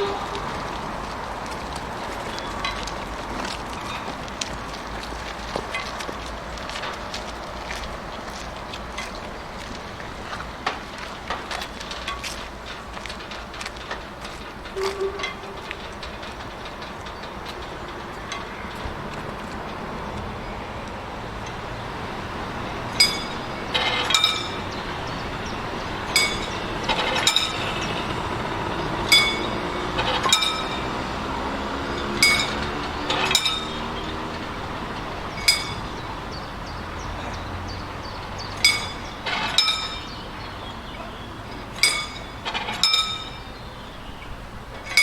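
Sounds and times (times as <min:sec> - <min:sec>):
train wheels clinking over rail joints: 0:00.0 - 0:45.0.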